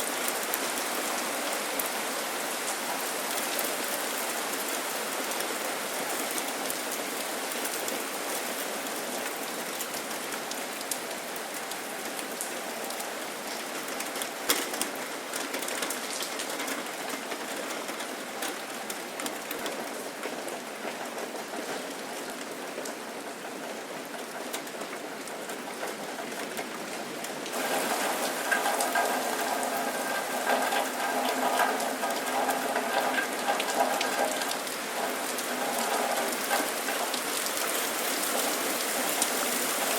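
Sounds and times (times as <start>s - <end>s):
rain pattering on hard surface: 0.0s - 39.9s.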